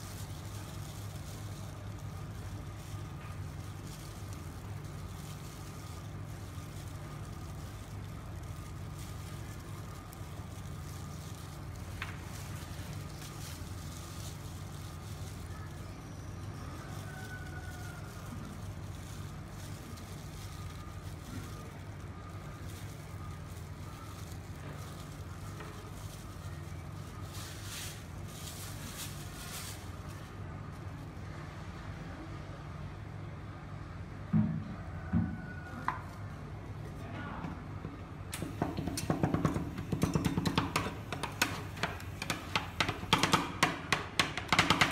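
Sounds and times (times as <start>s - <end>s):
refrigeration unit humming: 0.0s - 44.9s.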